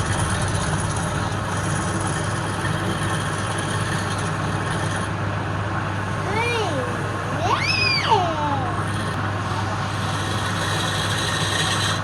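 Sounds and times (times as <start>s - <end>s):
wood lathe running: 0.0s - 5.1s, 6.0s - 12.0s.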